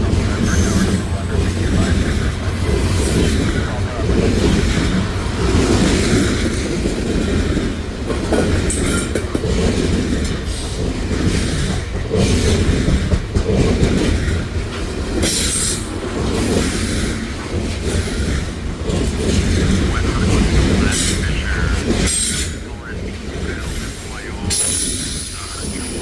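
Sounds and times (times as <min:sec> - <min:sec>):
train cars rolling past: 0:00.0 - 0:26.0.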